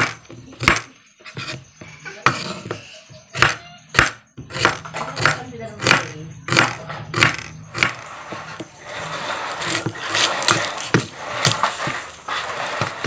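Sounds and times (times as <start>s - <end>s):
kitchen utensils scraping and clattering: 0.0s - 3.2s, 4.5s - 13.0s.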